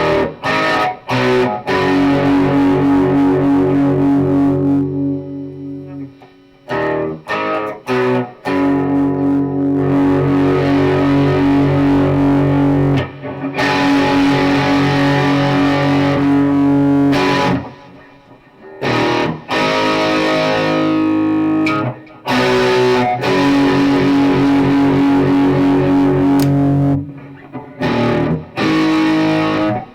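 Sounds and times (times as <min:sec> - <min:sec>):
electric guitar distorted chords: 0:00.0 - 0:29.9.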